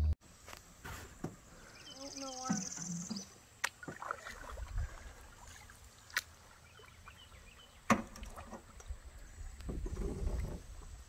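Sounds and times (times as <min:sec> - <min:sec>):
low rumble of paddling: 0:01.1 - 0:11.0.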